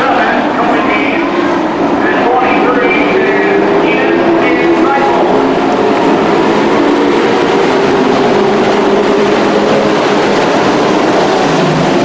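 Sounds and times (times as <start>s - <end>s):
race truck engines droning: 0.0s - 12.0s.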